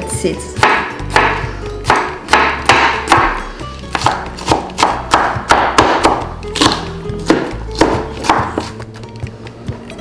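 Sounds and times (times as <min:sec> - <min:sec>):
background music: 0:00.0 - 0:10.0
knife chopping on wooden board: 0:00.6 - 0:08.8.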